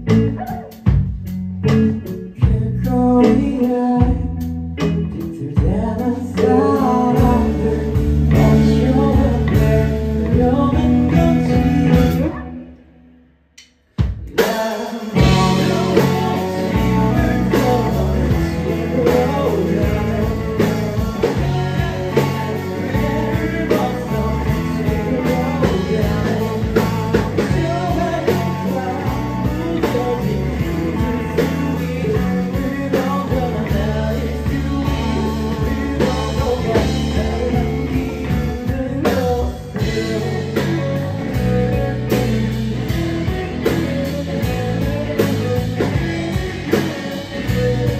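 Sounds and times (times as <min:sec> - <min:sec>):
rock band playing: 0:00.0 - 0:13.0, 0:13.9 - 0:47.9.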